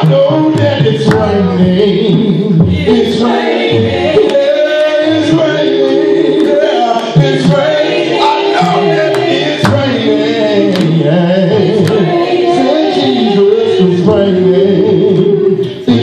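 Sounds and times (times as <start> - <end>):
man singing into a microphone: 0.0 - 3.3, 6.4 - 16.0
sharp percussive beat: 0.0 - 14.4.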